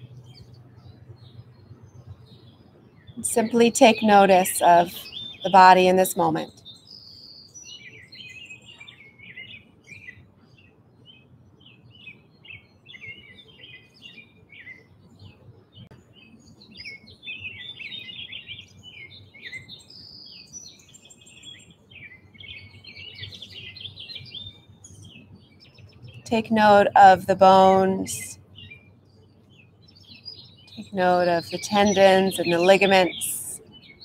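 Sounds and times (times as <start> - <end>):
songbirds chirping and singing: 0.0 - 34.0.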